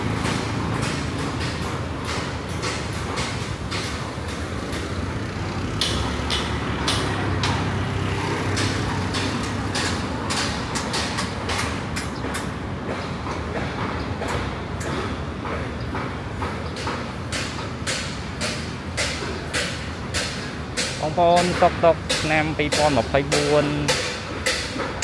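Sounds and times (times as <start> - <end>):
city traffic hum: 0.0 - 25.0.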